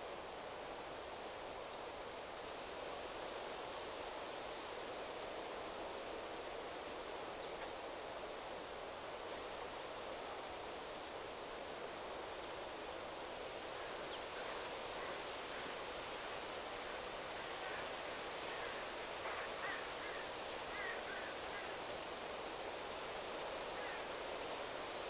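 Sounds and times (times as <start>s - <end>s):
wind rustling through trees: 0.0s - 25.0s.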